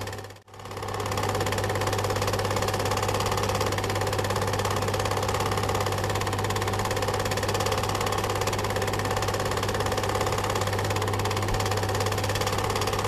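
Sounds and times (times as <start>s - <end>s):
film projector clatter: 0.0s - 13.0s.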